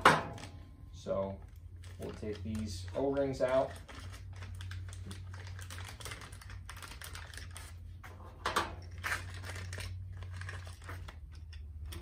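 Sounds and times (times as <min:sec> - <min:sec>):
steady low hum: 0:00.0 - 0:12.0
plastic bag crinkling: 0:01.4 - 0:08.0, 0:08.8 - 0:12.0.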